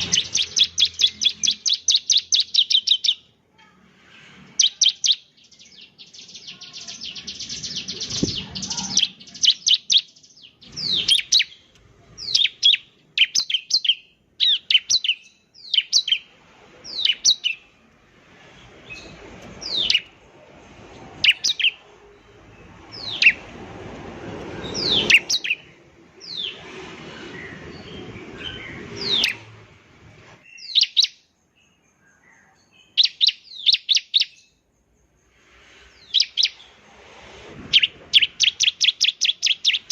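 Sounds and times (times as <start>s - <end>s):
bird singing buzzy trills and chirps: 0.0s - 3.4s, 4.2s - 36.9s, 37.6s - 39.9s.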